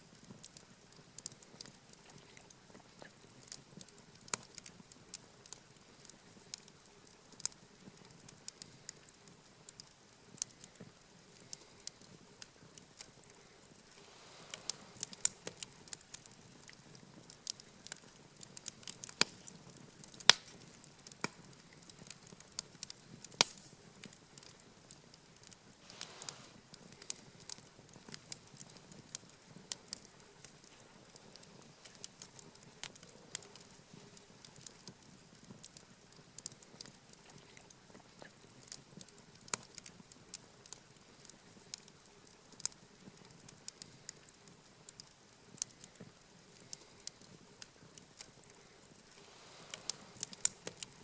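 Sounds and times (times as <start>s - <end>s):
campfire crackling and popping: 0.0s - 51.0s
faint low hiss: 0.0s - 51.0s.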